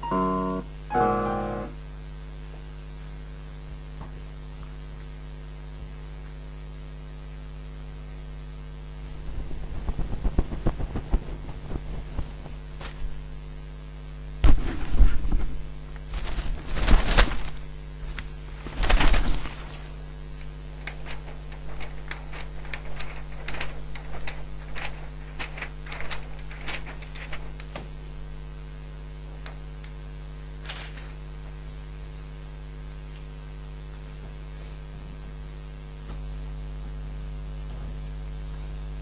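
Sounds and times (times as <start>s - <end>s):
steady electrical hum: 0.0s - 39.0s.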